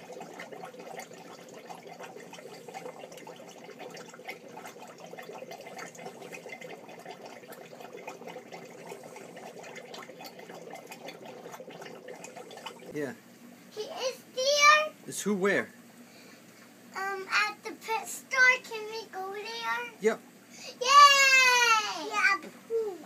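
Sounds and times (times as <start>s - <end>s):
aquarium water trickling: 0.0s - 23.0s
faint steady hum: 0.0s - 23.0s.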